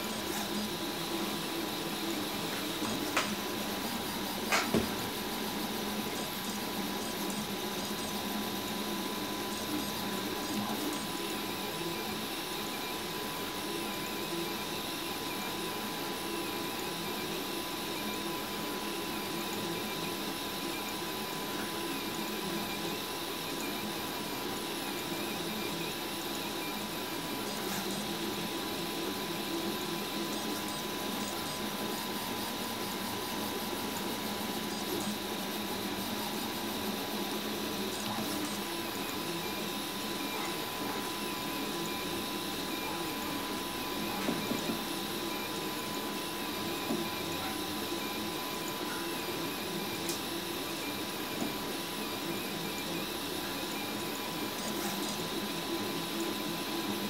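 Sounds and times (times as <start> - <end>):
printer stepper motors whirring: 0.0 - 57.0.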